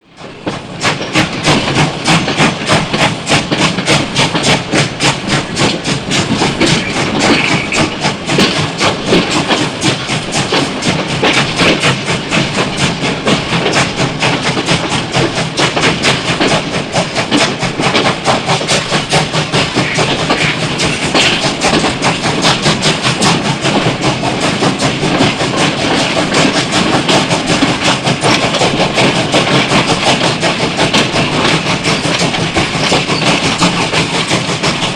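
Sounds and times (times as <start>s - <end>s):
steam train chugging: 0.0s - 34.9s.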